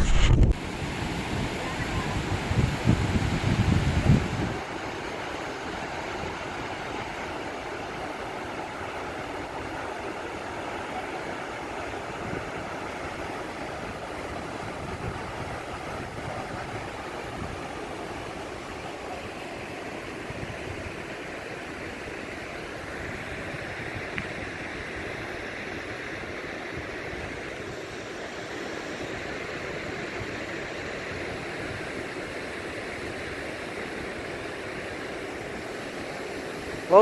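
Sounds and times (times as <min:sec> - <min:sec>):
small waterfall rushing: 0:00.0 - 0:37.0.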